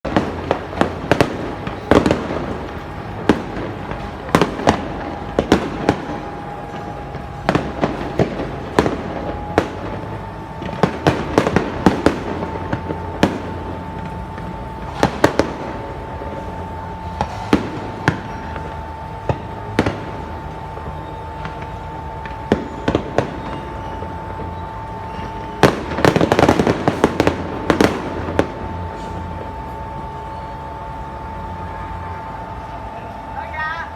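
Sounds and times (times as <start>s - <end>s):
fireworks bangs: 0.0s - 33.9s
steady high hum: 0.1s - 33.9s.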